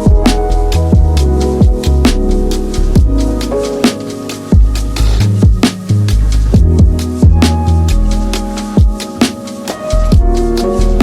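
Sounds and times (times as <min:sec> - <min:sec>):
electronic music with heavy beat: 0:00.0 - 0:11.0.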